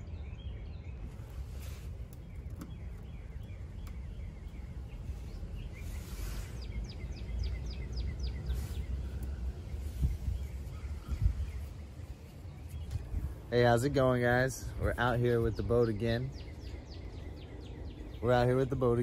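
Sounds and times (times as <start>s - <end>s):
songbird calling: 0.0s - 19.0s
wind rumble on microphone: 0.0s - 19.0s.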